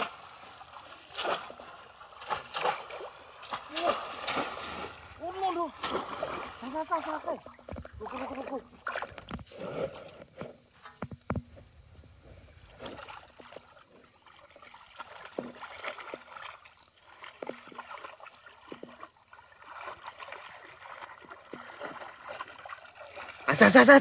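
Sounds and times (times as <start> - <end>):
short sharp splashes: 0.0 - 9.4, 12.7 - 24.0
pond water sloshing and gurgling: 0.0 - 24.0.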